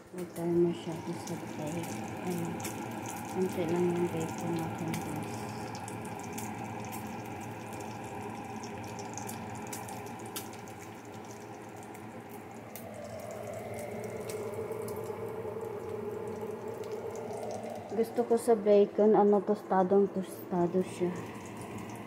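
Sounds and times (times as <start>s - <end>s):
bacon sizzling with crackles: 0.0s - 18.4s, 20.8s - 22.0s.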